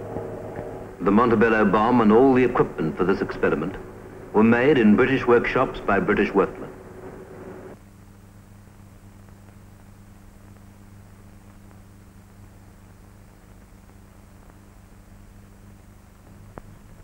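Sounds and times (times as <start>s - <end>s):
low electrical hum with hiss: 0.0s - 17.0s.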